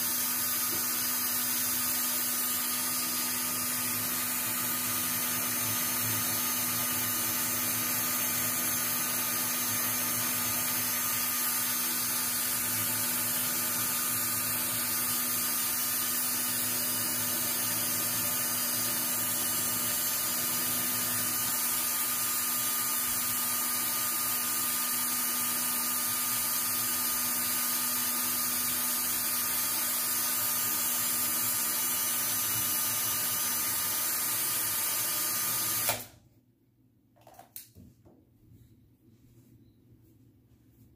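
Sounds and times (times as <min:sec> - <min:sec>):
small electric motor humming: 0:00.0 - 0:36.0.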